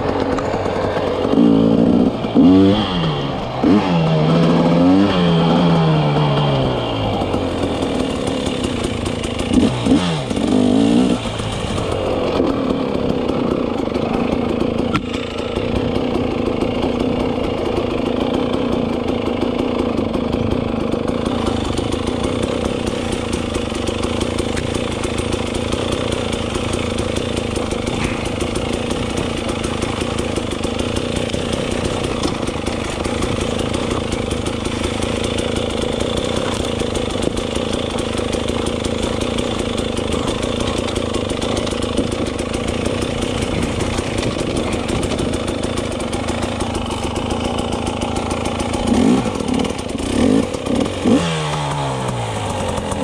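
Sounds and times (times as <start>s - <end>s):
dirt bike engine: 0.0s - 53.0s.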